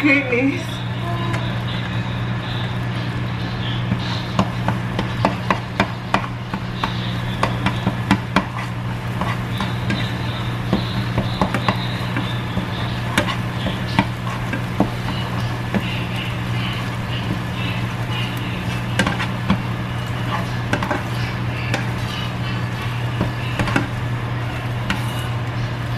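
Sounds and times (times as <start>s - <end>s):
steady low hum: 0.0s - 25.9s
spatula scraping frying pan: 3.5s - 25.7s.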